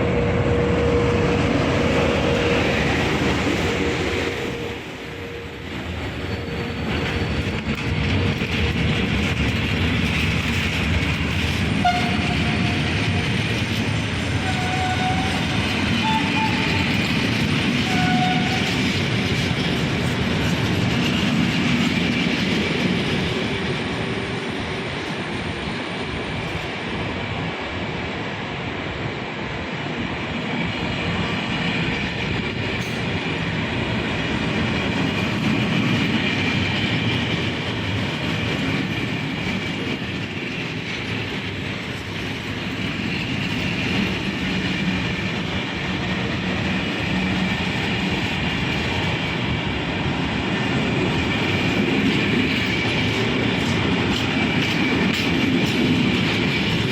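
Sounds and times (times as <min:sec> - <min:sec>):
train rumbling past: 0:00.0 - 0:56.9.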